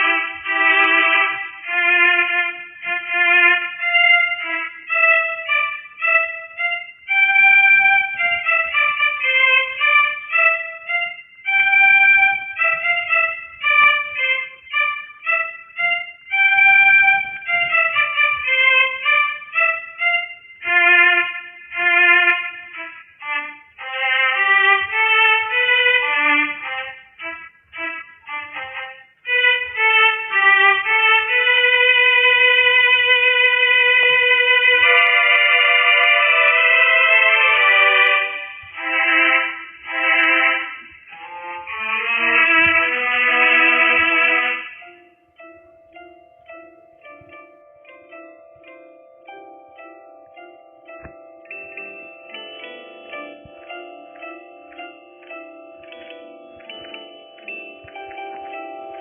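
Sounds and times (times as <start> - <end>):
violin melody: 0.0 - 59.0.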